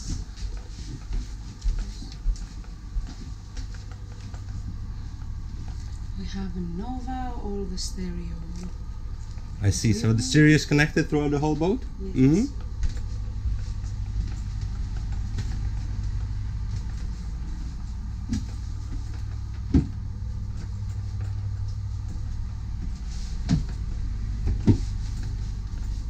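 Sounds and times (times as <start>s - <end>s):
low machinery drone: 0.0s - 26.0s.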